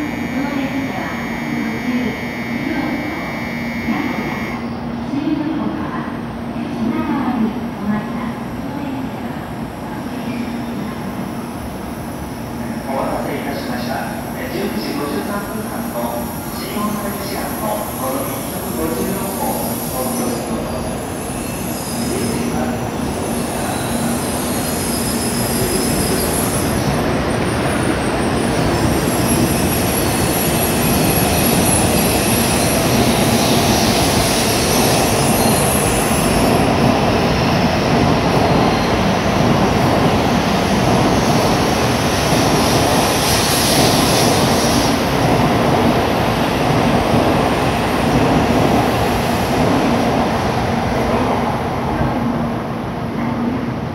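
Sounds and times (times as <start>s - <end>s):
train rushing past: 9.2s - 53.9s.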